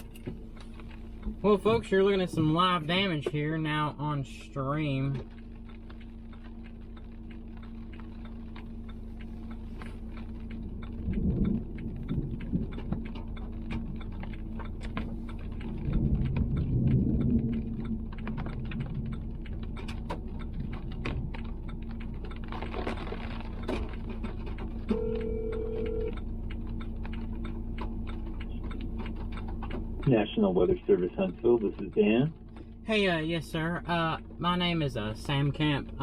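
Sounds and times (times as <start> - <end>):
low hum inside vehicle: 0.0 - 36.0
low rumbles: 0.0 - 36.0
rain tapping on vehicle: 0.0 - 36.0.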